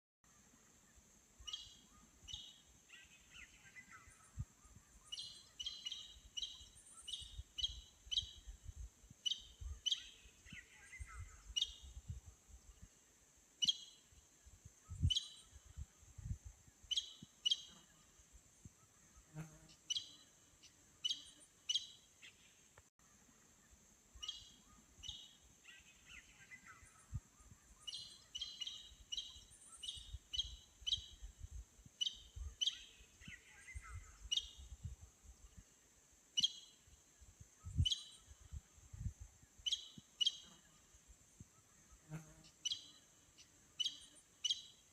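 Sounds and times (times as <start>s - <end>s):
steady high-pitched hiss: 0.3s - 44.9s.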